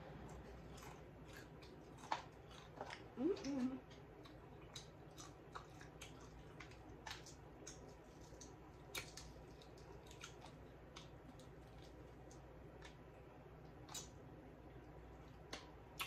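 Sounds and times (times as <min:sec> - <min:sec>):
chewing crispy fried chicken: 0:00.0 - 0:16.0.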